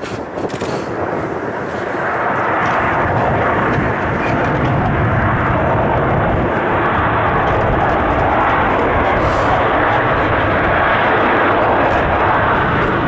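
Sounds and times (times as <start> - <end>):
jet airliner engines at takeoff: 0.0 - 13.0.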